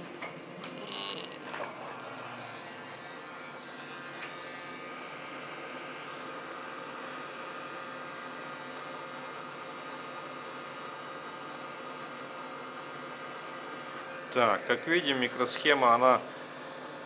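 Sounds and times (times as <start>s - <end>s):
hot-air station hissing: 0.0s - 17.0s.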